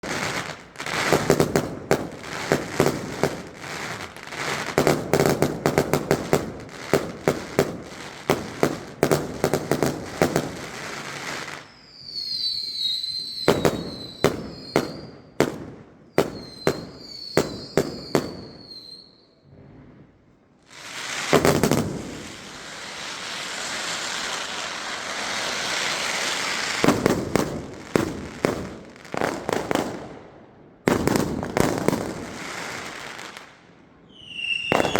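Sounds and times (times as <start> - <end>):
fireworks hissing crackle: 0.0 - 15.6, 16.2 - 19.9, 20.6 - 30.1, 30.9 - 34.9
fireworks bangs and cracks: 0.0 - 19.0, 20.7 - 33.6, 34.2 - 34.9
fireworks high wavering whistles: 0.0 - 20.0, 20.7 - 30.0, 30.9 - 34.9.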